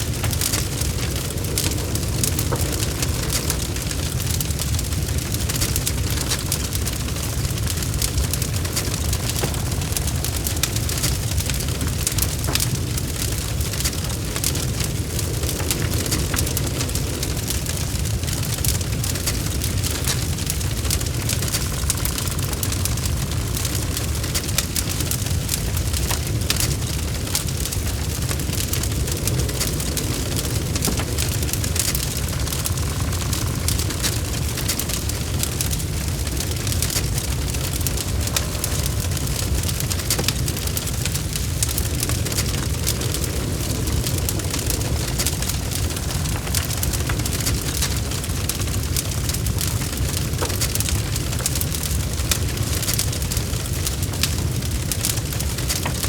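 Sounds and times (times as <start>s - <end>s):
burning logs crackling: 0.0s - 56.0s.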